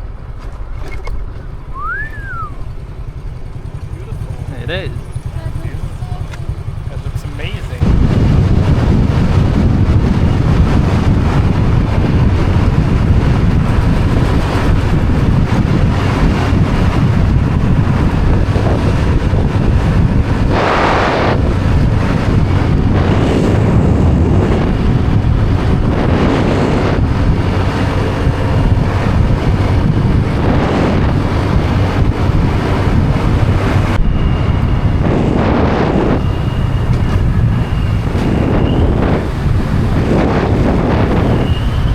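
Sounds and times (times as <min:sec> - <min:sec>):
motorbike engine drone: 0:00.0 - 0:41.9
wind buffeting microphone: 0:00.0 - 0:41.9.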